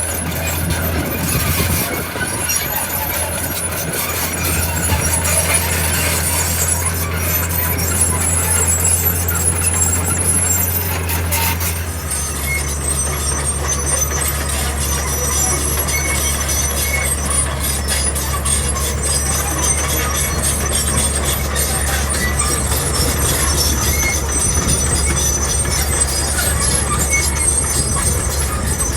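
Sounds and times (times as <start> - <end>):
diesel engine humming: 0.0 - 28.9
steel tracks squealing: 0.0 - 28.9.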